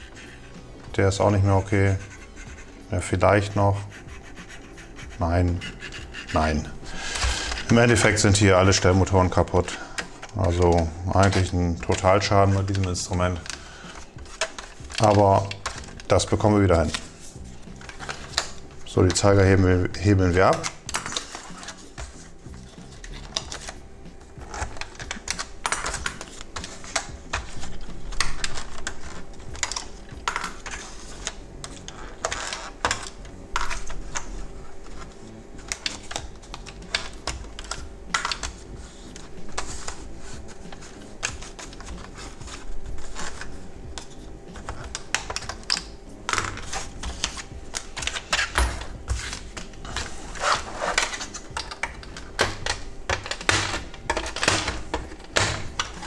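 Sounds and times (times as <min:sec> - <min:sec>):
hand tools clicking on hard plastic: 0:05.0 - 0:17.1, 0:17.7 - 0:34.3, 0:34.9 - 0:56.0.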